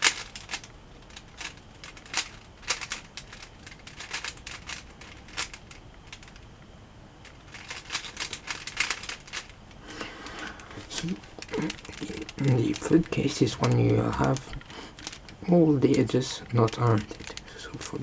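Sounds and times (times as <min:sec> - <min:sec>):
plastic cube clicking turns: 0:00.0 - 0:06.5, 0:07.2 - 0:09.6, 0:10.5 - 0:18.0.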